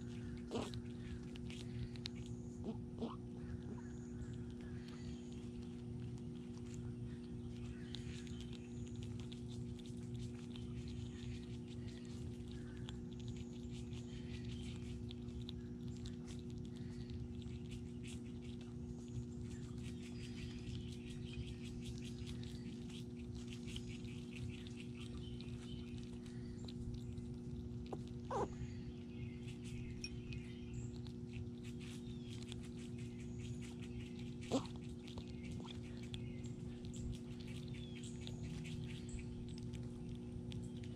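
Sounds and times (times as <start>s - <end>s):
squirrels chewing and cracking nuts: 0.0s - 40.9s
steady low hum: 0.0s - 40.9s.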